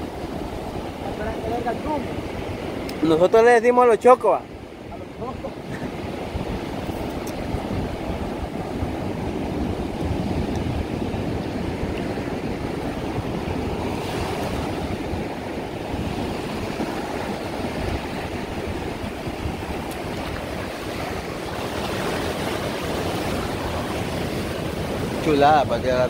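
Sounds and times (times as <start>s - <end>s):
waves breaking on sand beach: 0.0s - 26.0s
wind on microphone: 4.3s - 26.0s.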